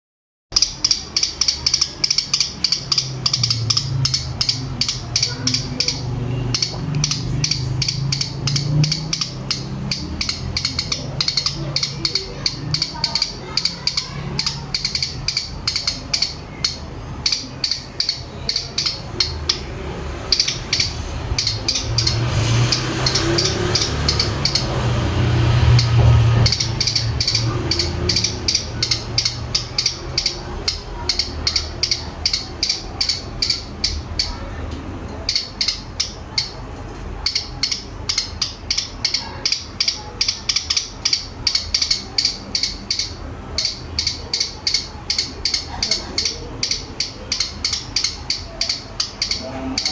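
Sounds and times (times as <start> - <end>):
songbird rapid ticking calls: 0.5 - 49.9.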